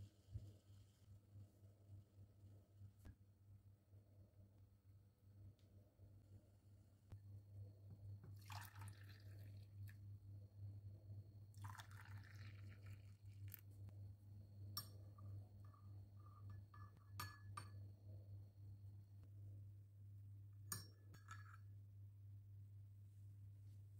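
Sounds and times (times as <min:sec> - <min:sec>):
low mains hum: 0:00.0 - 0:23.9.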